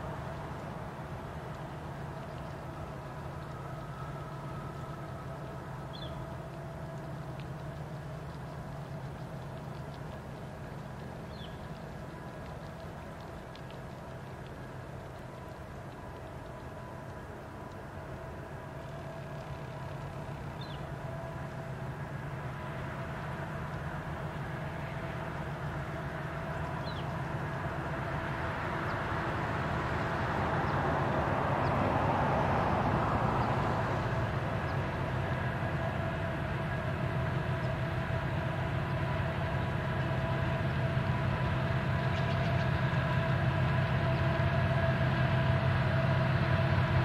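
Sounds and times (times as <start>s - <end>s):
diesel locomotive engine drone: 0.0s - 47.0s.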